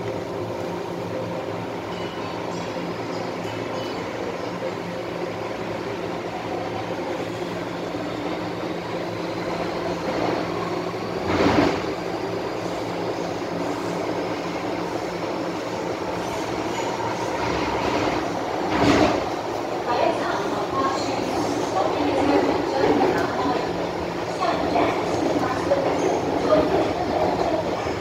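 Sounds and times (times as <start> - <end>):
train wheel and running noise: 0.0 - 28.0.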